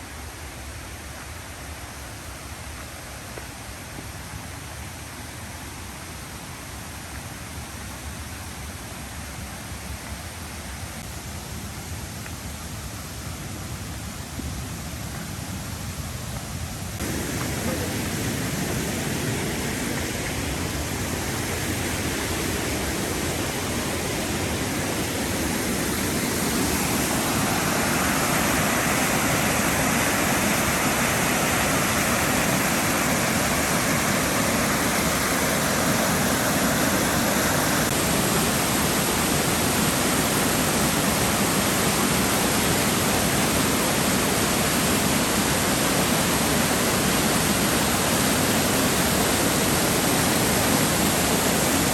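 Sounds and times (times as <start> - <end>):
rushing stream water: 0.0 - 51.9.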